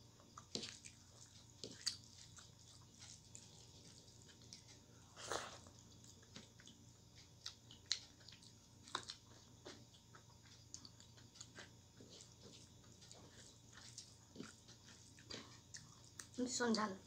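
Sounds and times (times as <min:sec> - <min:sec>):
wet chewing and mouth sounds: 0:00.2 - 0:16.9.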